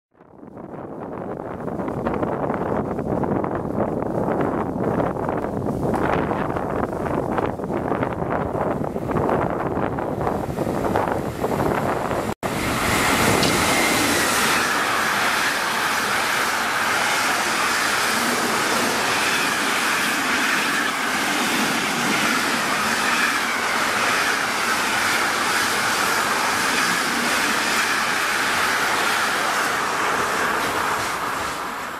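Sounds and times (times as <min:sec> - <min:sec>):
freight train passing at speed: 0:00.4 - 0:31.9.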